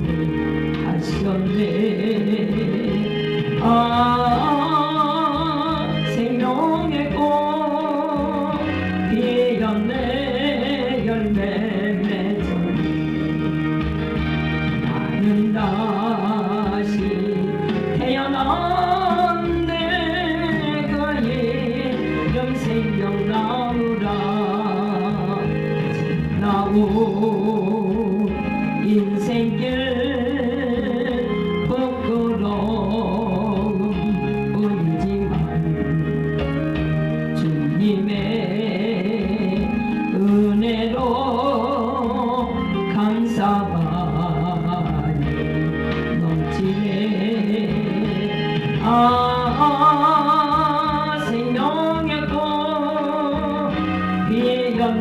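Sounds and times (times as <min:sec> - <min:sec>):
person singing with vibrato: 0:00.0 - 0:55.0
sustained musical accompaniment: 0:00.0 - 0:55.0.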